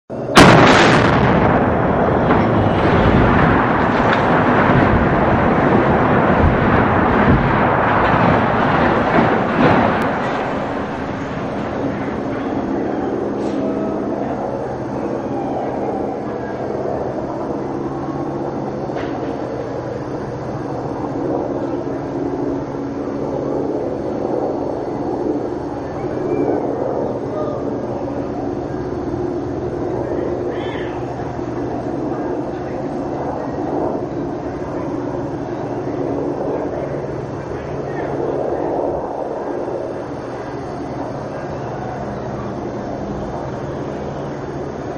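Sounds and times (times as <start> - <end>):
demolition explosion: 0.1 - 44.9
heavy rumble: 0.1 - 44.9.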